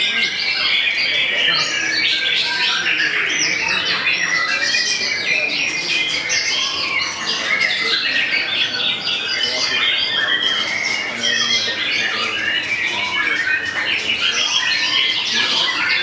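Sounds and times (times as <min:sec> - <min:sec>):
songbird singing rapid notes: 0:00.0 - 0:16.0.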